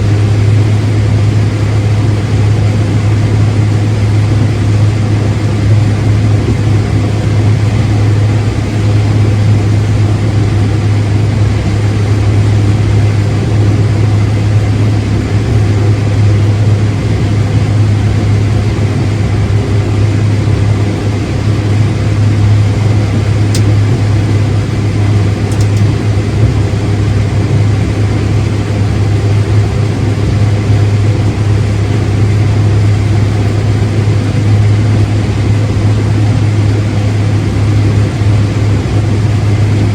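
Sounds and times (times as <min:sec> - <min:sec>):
heavy machinery engine droning: 0:00.0 - 0:39.9.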